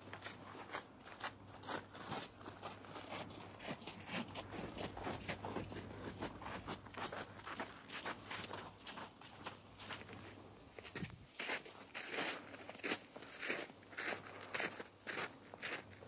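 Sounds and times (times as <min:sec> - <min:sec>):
footsteps crunching on snow: 0:00.1 - 0:16.0.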